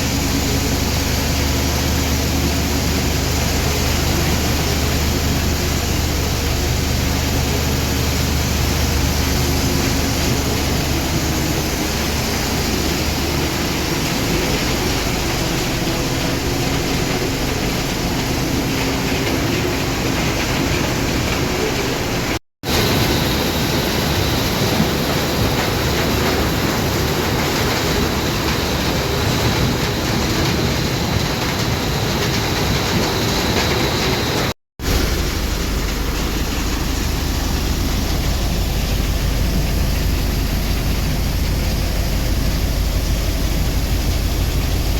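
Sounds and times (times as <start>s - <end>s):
machinery running with low hum: 0.0s - 44.9s.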